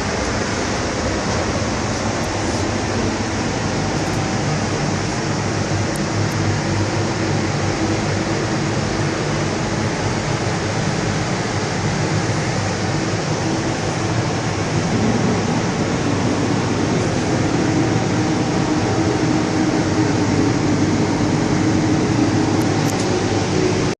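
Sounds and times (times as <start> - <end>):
machine hum with hiss: 0.0 - 23.9.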